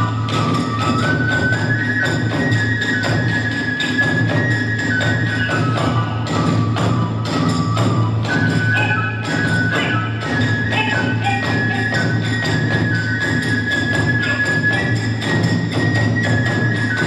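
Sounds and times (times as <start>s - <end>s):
fast steady drumming: 0.0s - 17.0s
hand cymbals clashing: 0.0s - 17.0s
high flute melody: 0.0s - 17.0s.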